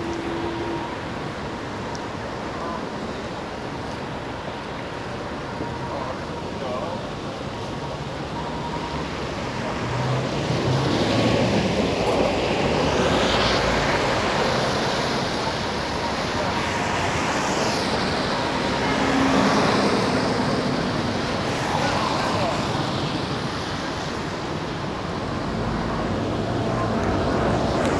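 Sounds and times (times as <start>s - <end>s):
cars passing on wet road: 0.0s - 27.9s.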